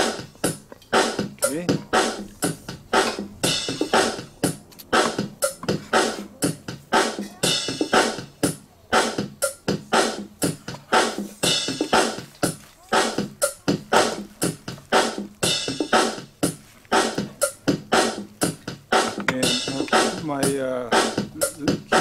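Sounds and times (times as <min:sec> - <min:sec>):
electronic drum beat music: 0:00.0 - 0:22.0.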